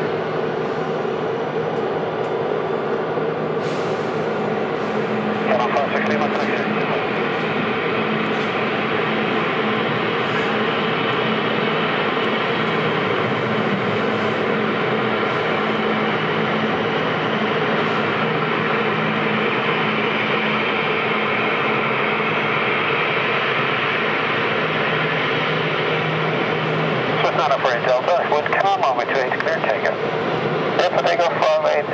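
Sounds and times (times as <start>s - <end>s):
aircraft engines running: 0.0s - 31.9s.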